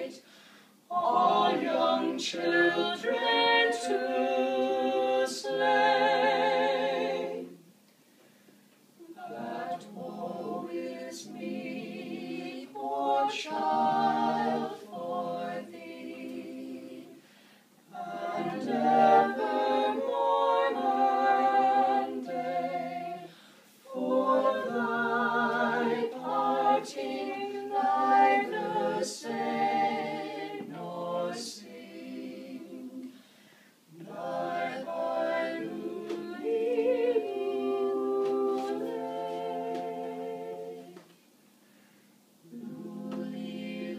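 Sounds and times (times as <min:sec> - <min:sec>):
vocal quartet singing a cappella: 0:00.0 - 0:07.8, 0:09.0 - 0:43.9.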